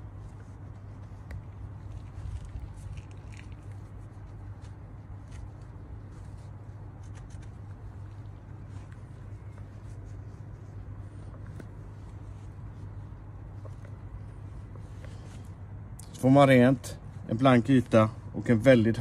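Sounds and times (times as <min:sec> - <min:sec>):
cloth rubbing on wheel rim: 0:00.0 - 0:19.0
steady low hum: 0:00.0 - 0:19.0.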